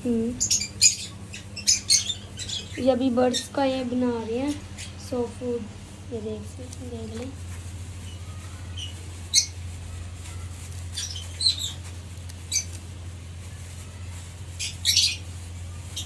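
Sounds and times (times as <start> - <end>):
steady low hum: 0.0 - 16.0
lovebirds chirping and squawking: 0.1 - 5.6, 7.6 - 16.0.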